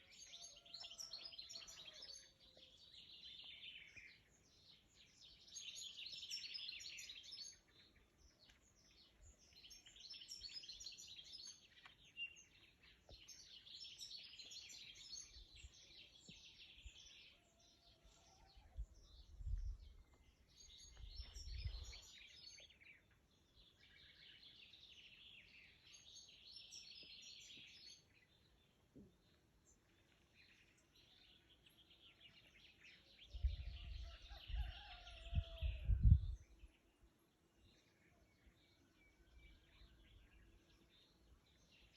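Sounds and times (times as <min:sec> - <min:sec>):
sparrows chirping: 0:00.0 - 0:37.0.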